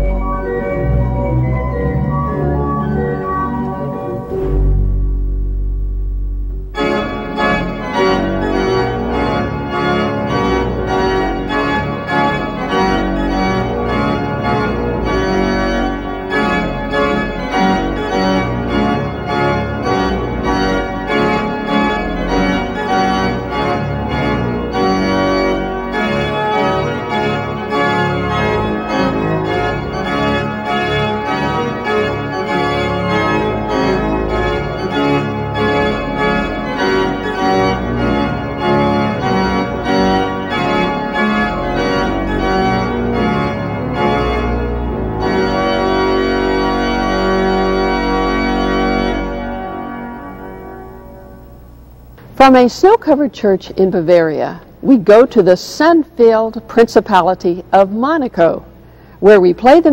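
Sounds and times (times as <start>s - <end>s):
deep organ pedal bass: 0.0s - 53.0s
pipe organ playing chords: 0.0s - 53.2s.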